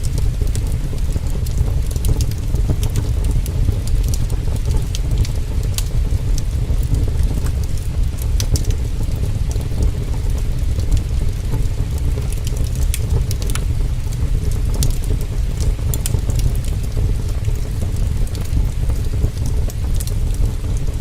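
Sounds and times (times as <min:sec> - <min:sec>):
heavy rain: 0:00.0 - 0:21.0
wood fire crackling: 0:00.0 - 0:21.0.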